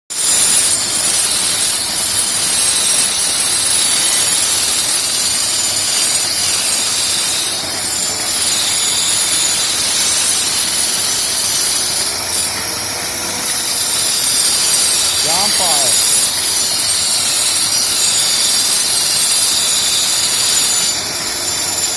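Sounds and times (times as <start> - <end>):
power tool motor whining: 0.2 - 21.9.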